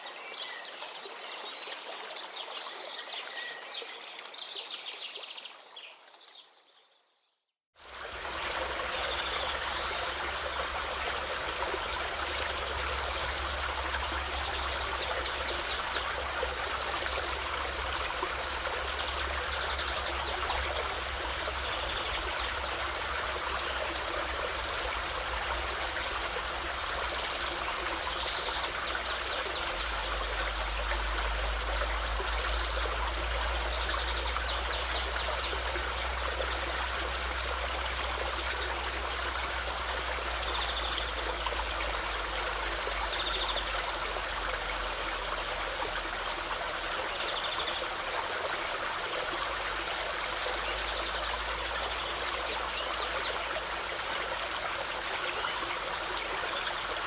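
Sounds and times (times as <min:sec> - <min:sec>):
river water flowing: 0:07.8 - 0:57.0
stream flowing: 0:07.8 - 0:57.0.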